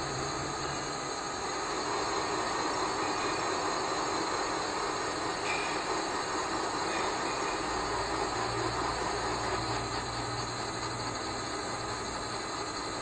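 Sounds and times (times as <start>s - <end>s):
milling machine running: 0.0s - 13.0s.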